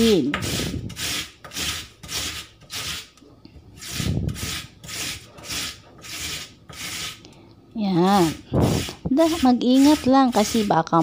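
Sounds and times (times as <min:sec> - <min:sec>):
potato grating on metal grater: 0:00.0 - 0:07.3, 0:08.0 - 0:11.0.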